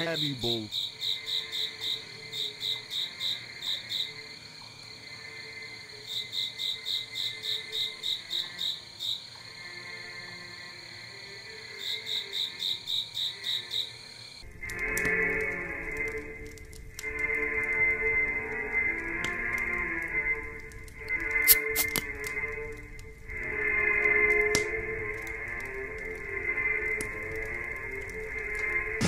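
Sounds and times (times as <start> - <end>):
crickets chirping: 0.0 - 29.0
music: 0.0 - 29.0.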